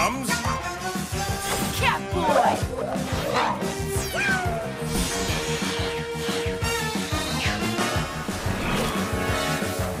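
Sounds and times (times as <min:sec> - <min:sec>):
upbeat cartoon music: 0:00.0 - 0:10.0.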